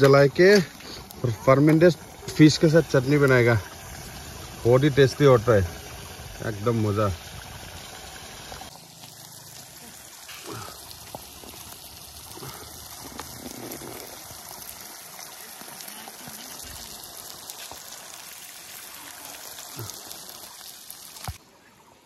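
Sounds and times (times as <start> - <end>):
wood fire crackling: 0.0 - 21.4
river flowing: 0.0 - 21.5.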